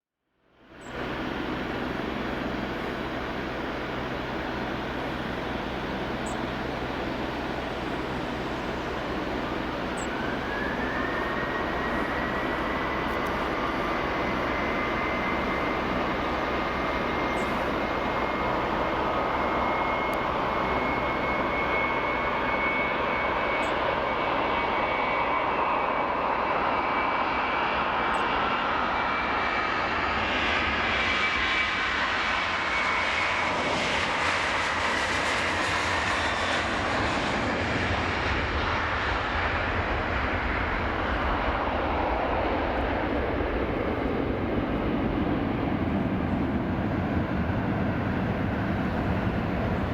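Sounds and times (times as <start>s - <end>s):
jet engine fan whine: 0.5s - 49.9s
jet roar: 0.8s - 49.9s
deep jet rumble: 1.0s - 49.9s.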